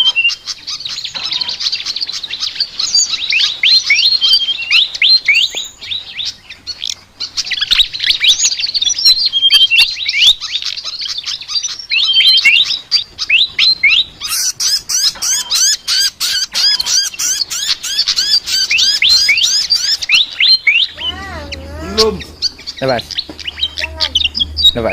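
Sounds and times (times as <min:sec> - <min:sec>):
bird chirping song: 0:00.0 - 0:24.9.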